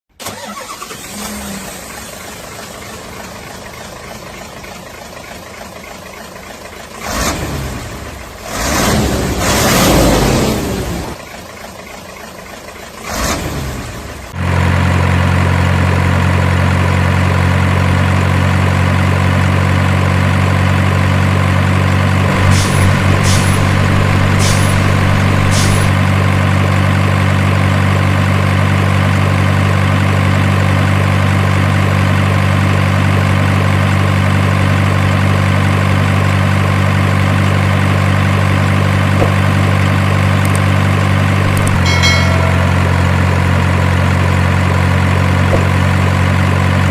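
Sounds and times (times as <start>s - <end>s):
truck engine idling: 1.8s - 7.2s, 11.2s - 13.0s, 14.1s - 46.9s.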